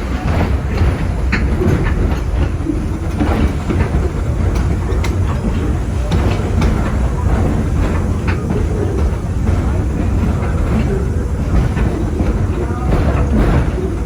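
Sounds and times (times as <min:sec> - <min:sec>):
train coaches rumbling on track: 0:00.0 - 0:14.0
wheels clicking and clacking: 0:00.0 - 0:14.0.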